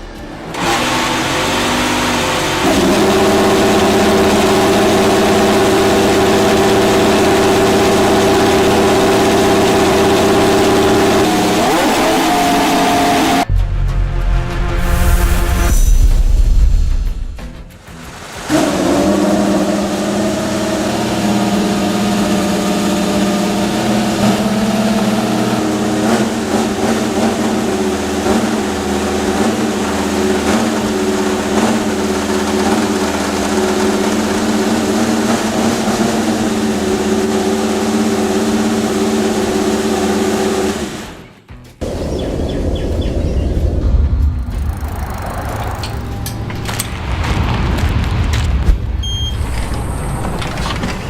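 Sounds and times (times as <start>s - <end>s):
racing car engine running: 0.0s - 13.5s, 18.2s - 51.0s.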